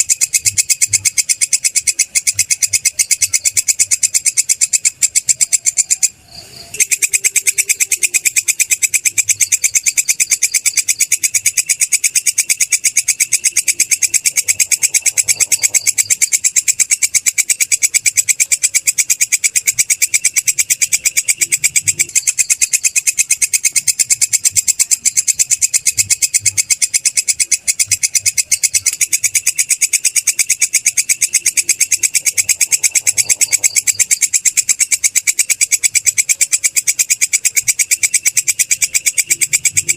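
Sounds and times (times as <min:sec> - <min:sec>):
katydid trilling: 0:00.0 - 0:39.9.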